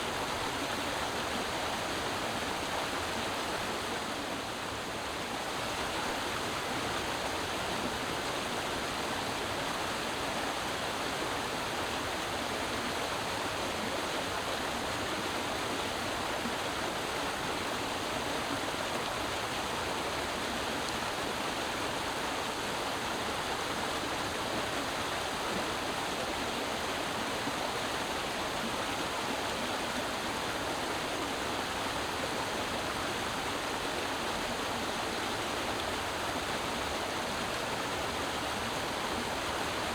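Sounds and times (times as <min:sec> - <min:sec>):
creek water flowing and splashing: 0:00.0 - 0:39.9.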